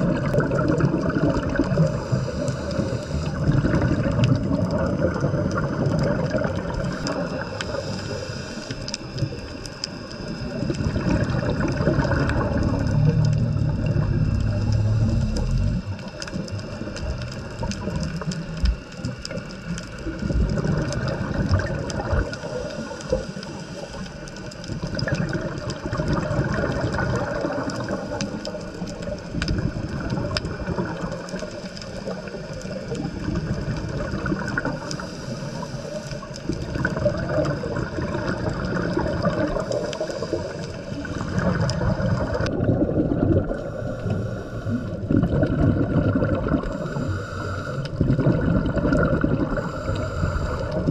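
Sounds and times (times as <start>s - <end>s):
muffled underwater gurgling: 0.0s - 50.9s.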